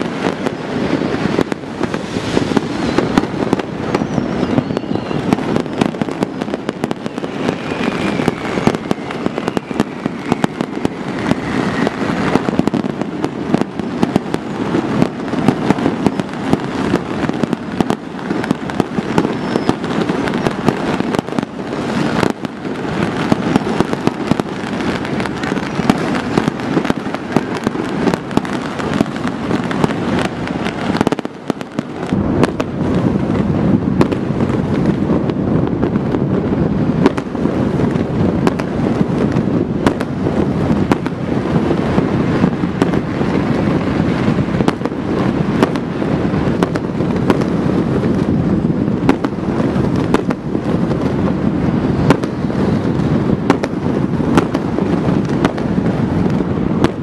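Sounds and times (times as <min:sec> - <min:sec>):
firecracker bangs: 0:00.0 - 0:57.0
fireworks crackling: 0:00.0 - 0:57.0.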